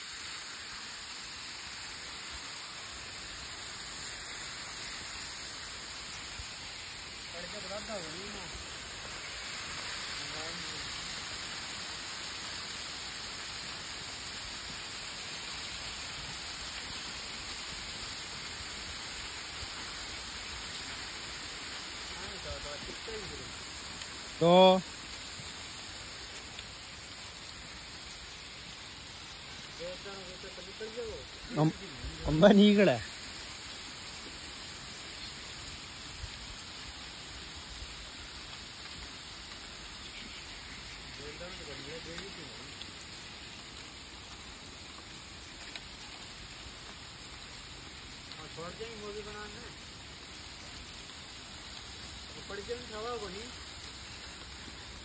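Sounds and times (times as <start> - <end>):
flowing canal water: 0.0 - 55.0
outdoor background hiss: 0.0 - 55.0.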